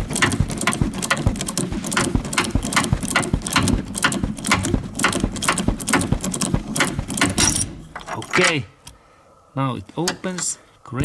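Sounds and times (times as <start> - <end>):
ratchet wrench clicking: 0.0 - 9.0.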